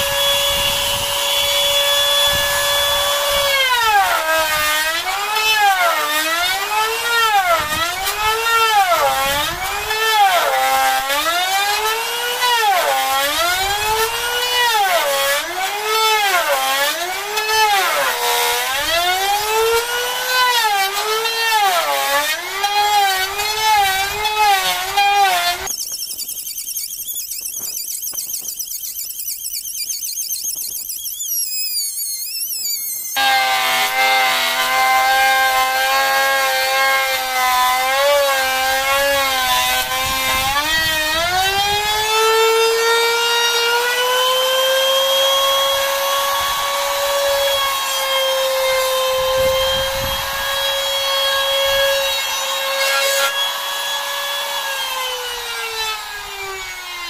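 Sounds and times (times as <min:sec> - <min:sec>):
router motor whine cutting wood: 0:00.0 - 0:26.4, 0:30.6 - 0:57.0.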